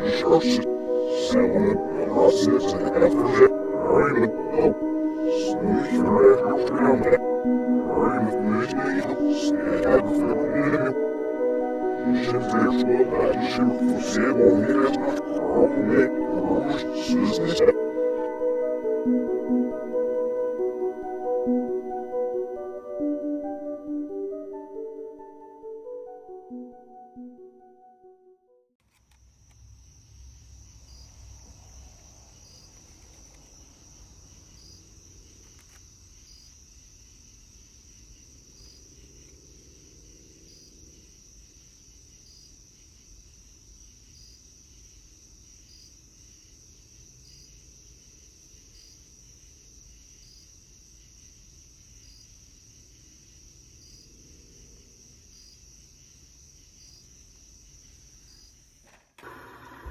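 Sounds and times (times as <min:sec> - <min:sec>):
insect trill: 0:00.0 - 0:26.0, 0:28.8 - 0:58.9.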